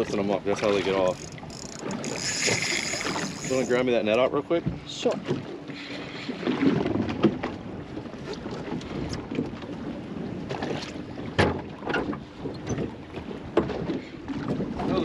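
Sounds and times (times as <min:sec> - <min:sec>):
knocks and clunks on boat: 0:00.0 - 0:15.0.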